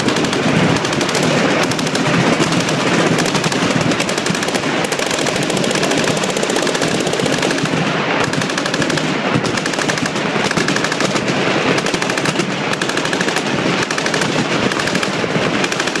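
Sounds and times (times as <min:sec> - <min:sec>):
machine guns firing automatic: 0:00.0 - 0:16.0.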